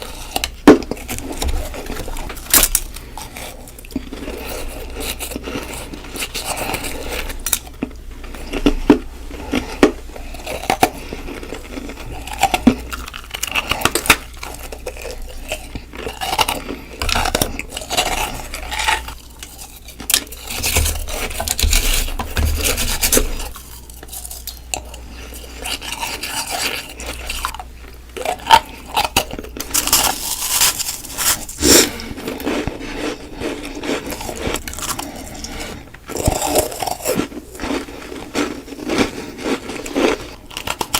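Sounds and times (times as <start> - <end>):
crunching ice between teeth: 0.0 - 40.9.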